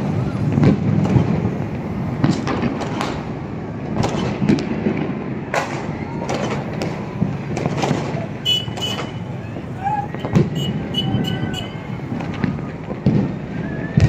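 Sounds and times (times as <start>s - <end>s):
fireworks and firecrackers bangs: 0.0s - 14.0s.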